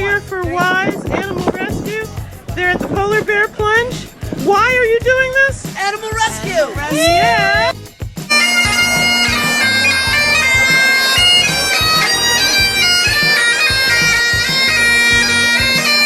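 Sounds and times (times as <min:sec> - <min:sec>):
bagpipes playing: 0:00.8 - 0:16.0.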